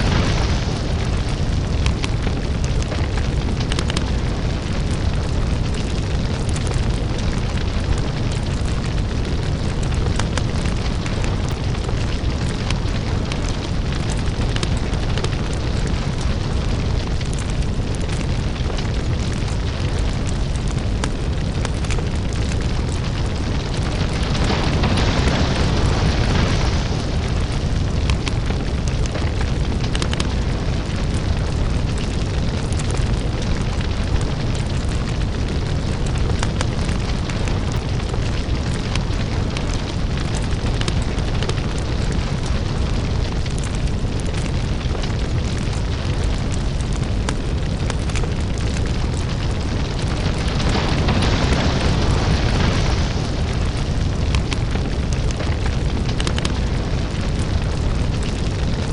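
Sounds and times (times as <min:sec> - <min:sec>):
deep steady rumble: 0:00.0 - 0:58.9
lava crackling and popping: 0:00.0 - 0:58.9.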